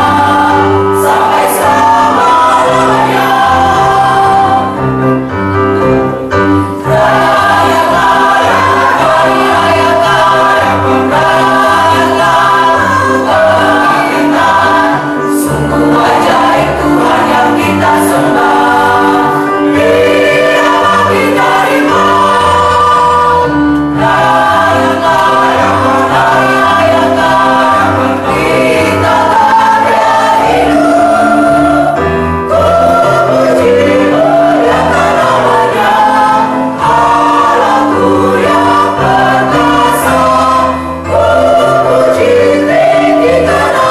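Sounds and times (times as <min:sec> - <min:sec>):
choir singing a hymn: 0:00.0 - 0:43.9
sustained accompaniment with bass line: 0:00.0 - 0:43.9.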